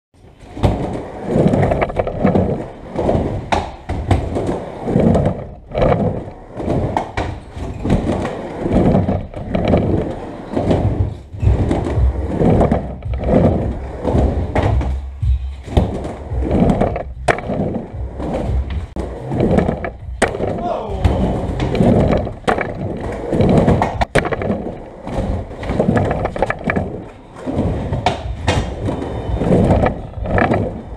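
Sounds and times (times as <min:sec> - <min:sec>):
skateboard wheels rolling on ramp: 0:00.2 - 0:30.9
skateboard clacks: 0:00.6 - 0:30.9.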